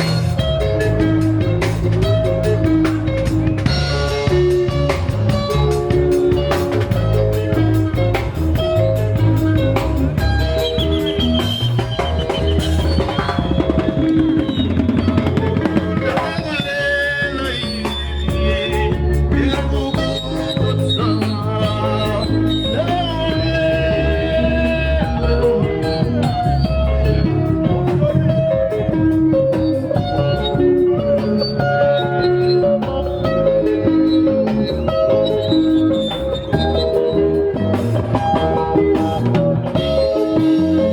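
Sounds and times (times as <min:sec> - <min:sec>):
bass line: 0:00.0 - 0:40.9
drum kit beat: 0:00.0 - 0:40.9
electric guitar melody: 0:00.0 - 0:40.9.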